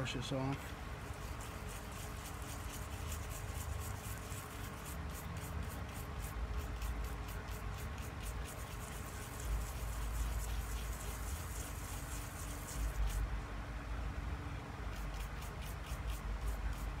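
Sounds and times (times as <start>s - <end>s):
toothbrush scrubbing circuit board: 1.0s - 13.3s, 14.9s - 17.0s.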